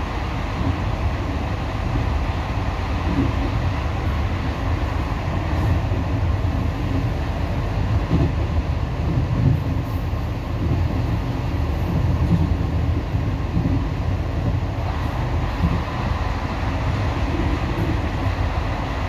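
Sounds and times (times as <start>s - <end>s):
train carriage running noise: 0.0s - 19.0s.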